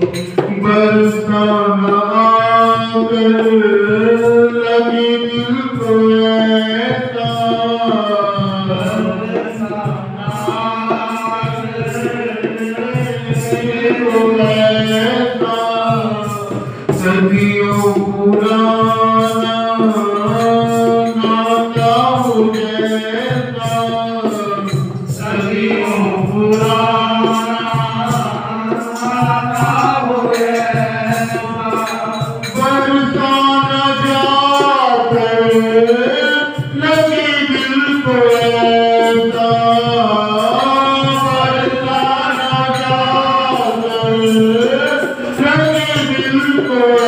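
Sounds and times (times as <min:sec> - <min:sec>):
man singing into a microphone: 0:00.0 - 0:47.0.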